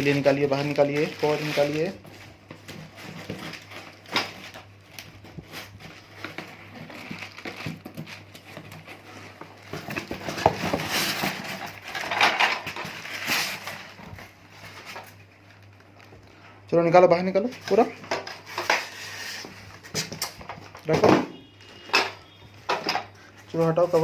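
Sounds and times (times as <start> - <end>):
cardboard packaging rustling: 0.0 - 16.4, 17.2 - 24.0.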